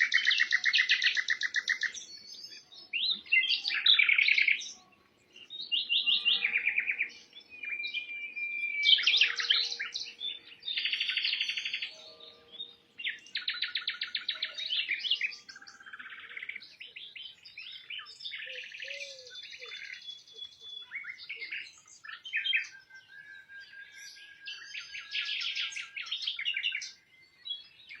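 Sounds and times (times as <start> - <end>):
small birds chirping and trilling: 0.0 - 28.0.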